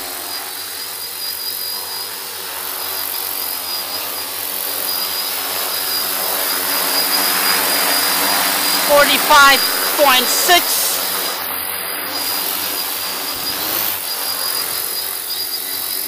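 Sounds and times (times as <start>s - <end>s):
drone motors and propellers: 0.0s - 8.9s, 11.0s - 16.0s.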